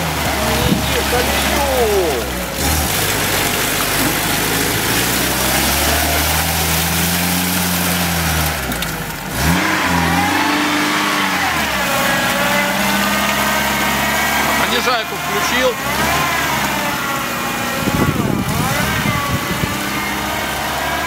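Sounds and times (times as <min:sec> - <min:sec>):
car engine labouring and revving: 0:00.0 - 0:21.0.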